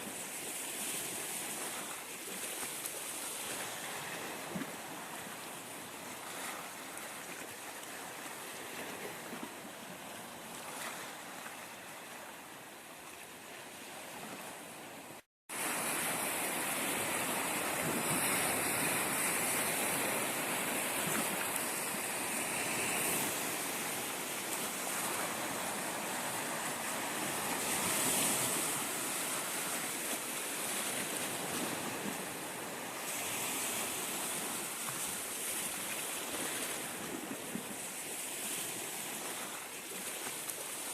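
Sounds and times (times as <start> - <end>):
waves washing onto shore: 0.0 - 40.9.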